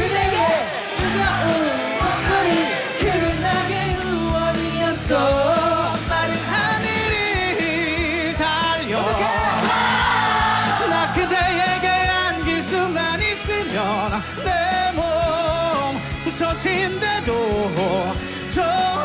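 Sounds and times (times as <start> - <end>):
live band with steady beat: 0.0 - 19.0
men singing pop-rock chorus: 0.0 - 19.0.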